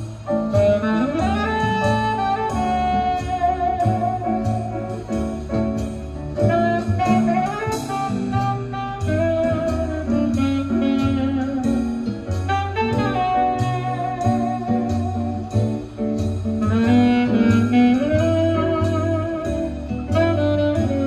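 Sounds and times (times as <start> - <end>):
recorded music over loudspeakers: 0.0 - 21.0.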